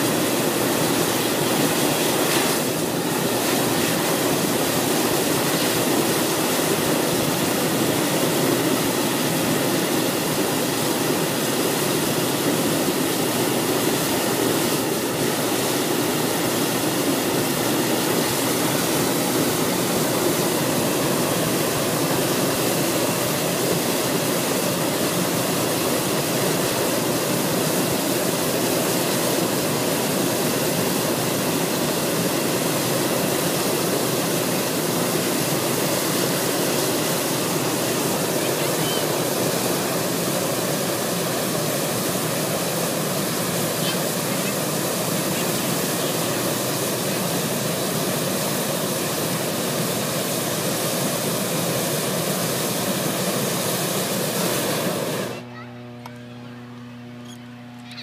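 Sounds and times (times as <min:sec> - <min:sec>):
propane burner firing: 0:00.0 - 0:56.2.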